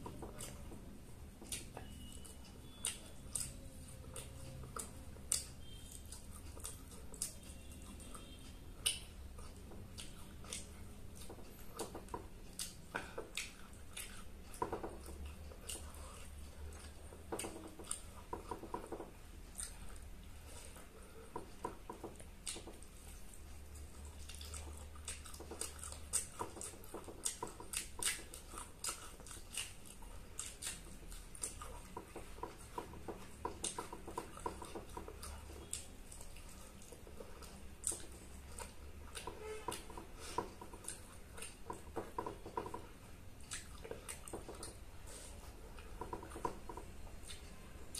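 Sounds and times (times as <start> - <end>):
chewing and mouth smacking: 0.0 - 47.9.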